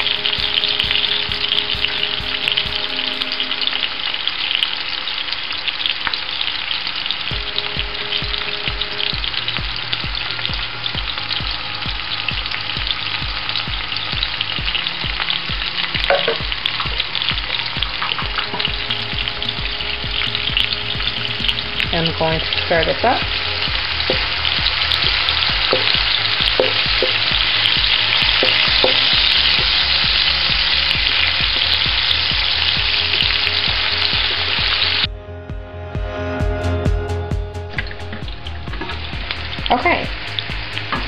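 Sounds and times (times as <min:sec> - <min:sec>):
food sizzling in hot oil: 0:00.0 - 0:35.1.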